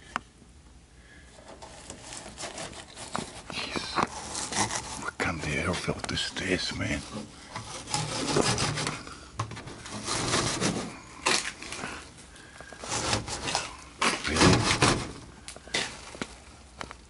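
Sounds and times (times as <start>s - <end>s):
air filter scraping against metal: 1.3s - 16.5s.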